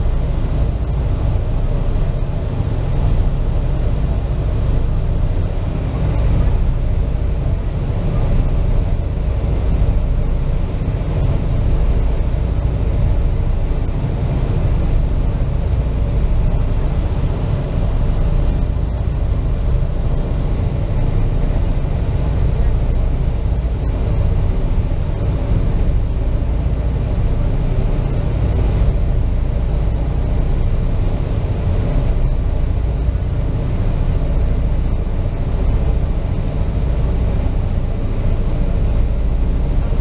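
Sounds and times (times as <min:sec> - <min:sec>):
faint hum: 0:00.0 - 0:40.0.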